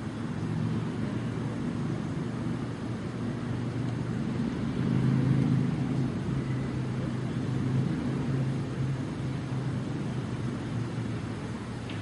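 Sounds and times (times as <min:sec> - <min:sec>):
low engine rumble with hum: 0:00.0 - 0:12.0.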